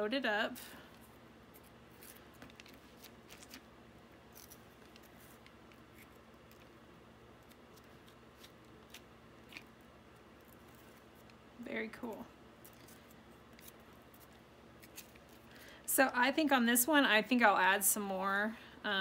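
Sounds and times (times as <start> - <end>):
quiet room hum: 0.0 - 19.0.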